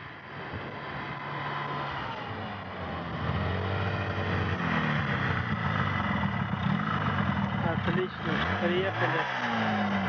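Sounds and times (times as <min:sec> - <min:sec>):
snowmobile engine approaching: 0:00.0 - 0:10.0.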